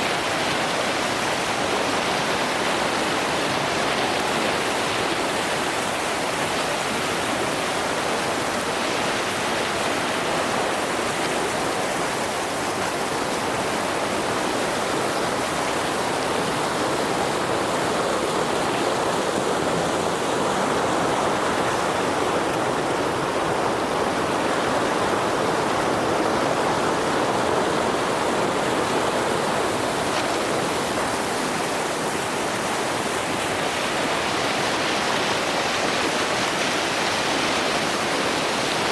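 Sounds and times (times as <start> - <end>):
river water rushing over rapids: 0.0 - 38.9.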